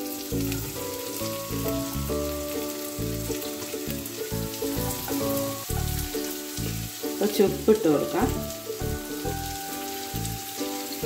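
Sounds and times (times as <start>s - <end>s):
onions sizzling in hot oil: 0.0s - 11.0s
background music with bass line: 0.3s - 10.6s.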